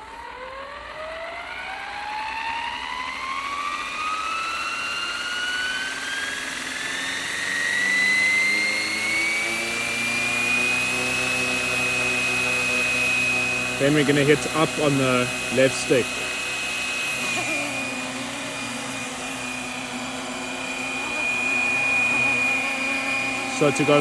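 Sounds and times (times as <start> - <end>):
helicopter motor whine rising: 0.0 - 24.0.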